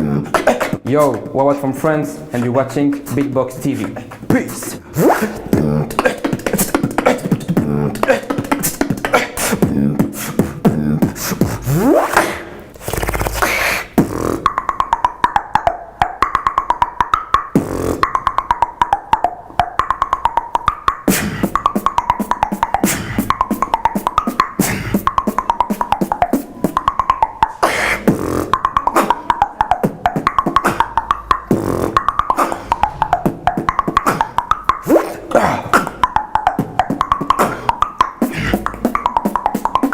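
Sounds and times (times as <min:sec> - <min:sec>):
beatboxing: 0:00.0 - 0:39.9.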